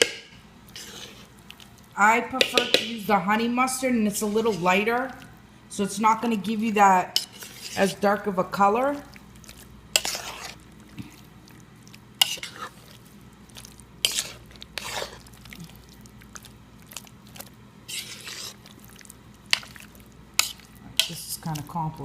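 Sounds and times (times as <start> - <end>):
spoon stirring potatoes in a bowl: 0.0 - 11.2, 11.9 - 22.0.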